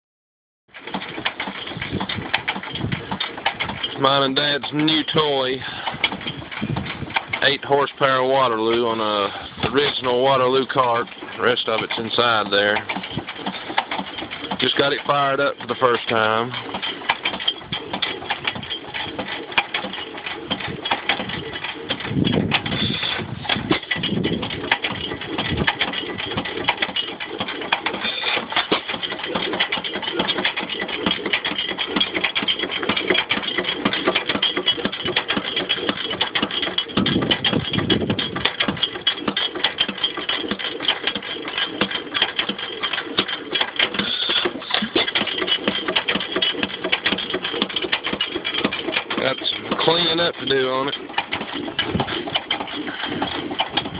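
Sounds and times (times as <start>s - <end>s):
stationary gas engine running: 0.7s - 53.9s
valve gear clatter: 0.8s - 53.9s.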